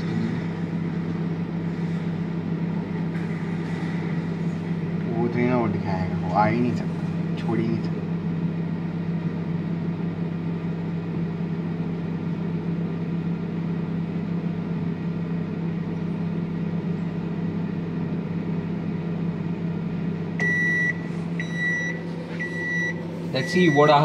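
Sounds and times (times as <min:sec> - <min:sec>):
microwave oven humming: 0:00.0 - 0:24.0.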